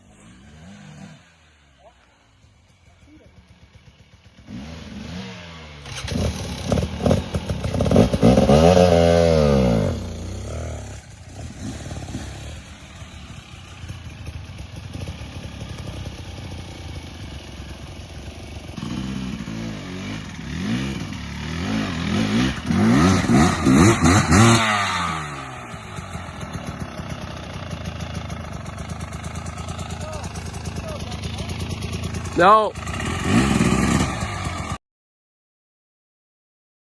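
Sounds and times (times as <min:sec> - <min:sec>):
dirt bike engine revving: 0:00.0 - 0:01.8, 0:03.3 - 0:34.8.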